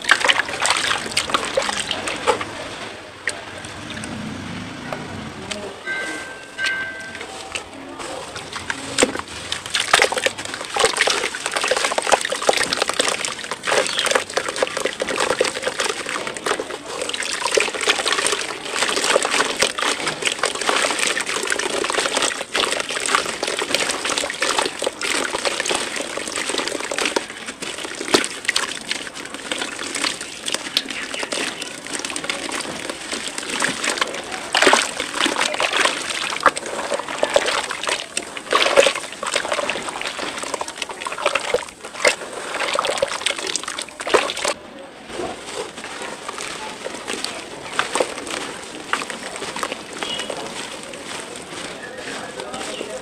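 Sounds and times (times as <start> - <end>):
dirt splashing into water: 0.0 - 53.0
hands sloshing through mud: 0.0 - 53.0.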